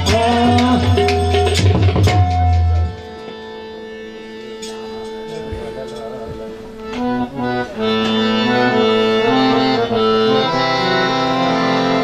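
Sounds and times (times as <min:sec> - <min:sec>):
harmonium melody: 0:00.0 - 0:12.0.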